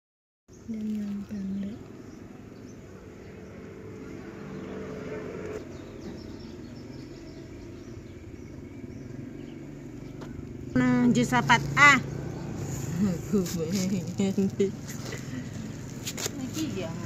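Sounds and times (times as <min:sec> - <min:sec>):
vehicle engine humming: 0:00.5 - 0:17.0.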